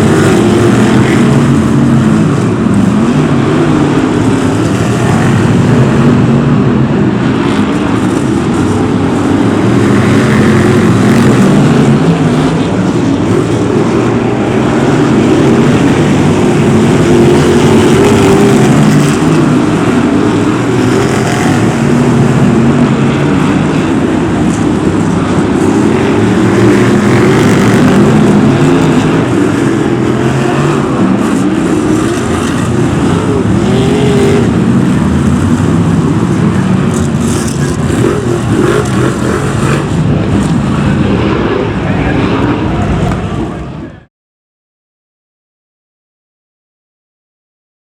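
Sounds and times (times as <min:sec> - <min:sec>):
racing car engines: 0:00.0 - 0:44.1.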